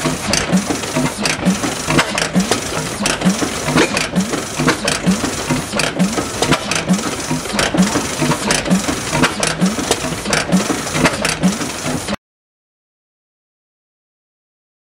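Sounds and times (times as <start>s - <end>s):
engine running at slow beat: 0.0s - 12.2s.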